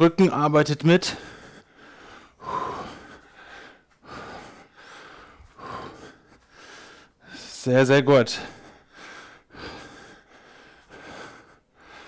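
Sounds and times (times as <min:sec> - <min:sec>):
man breathing hard: 0:01.0 - 0:07.6, 0:08.3 - 0:12.0.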